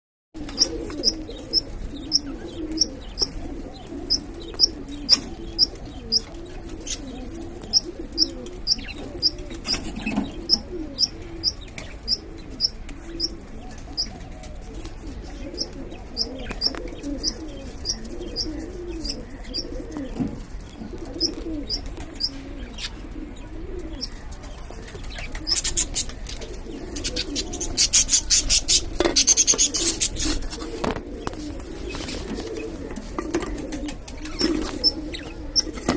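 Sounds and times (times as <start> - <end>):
budgies chirping: 0.4 - 35.9
pigeons cooing: 0.4 - 35.9.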